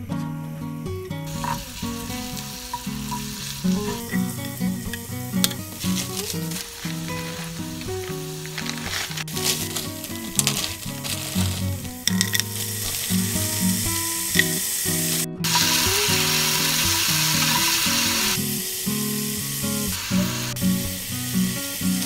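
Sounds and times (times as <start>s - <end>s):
background music: 0.0s - 22.0s
vegetables sizzling in hot oil: 1.3s - 22.0s.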